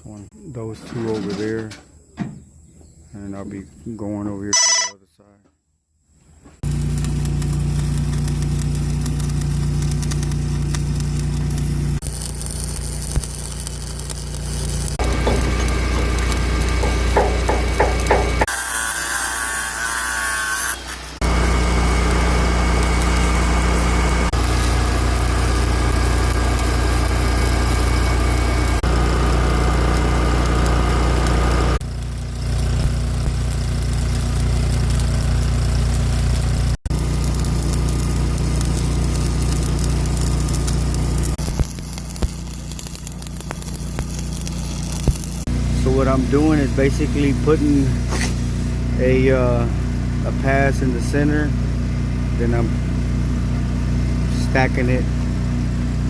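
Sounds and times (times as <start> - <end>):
arc welding crackling and hissing: 6.4 - 56.0
welding machine engine running: 6.6 - 18.9, 20.8 - 56.0.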